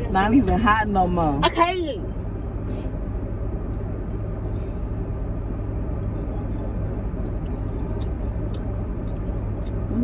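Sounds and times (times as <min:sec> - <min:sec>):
car rumble from inside cabin: 0:00.0 - 0:10.0.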